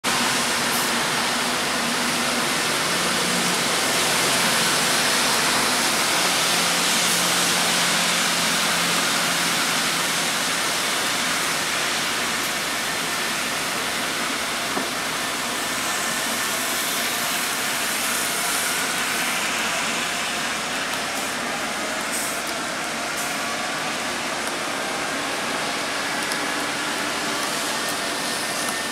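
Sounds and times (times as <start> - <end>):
train tyres rushing hiss: 0.1 - 28.9.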